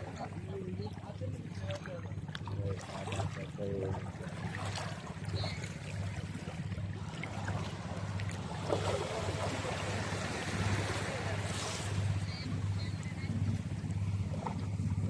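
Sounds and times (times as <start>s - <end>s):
boat engine humming: 0.0s - 15.0s
water: 0.0s - 15.0s
wind: 0.0s - 15.0s.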